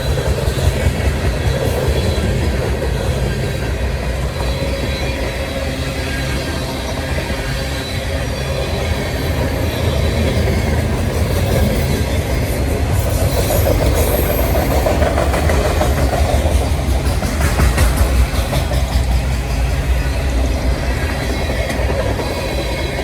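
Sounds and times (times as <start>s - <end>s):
high wheel squeal: 0.0s - 23.0s
train wheels rumbling on rails: 0.0s - 23.0s
wheels clicking over rail joints: 0.0s - 23.0s.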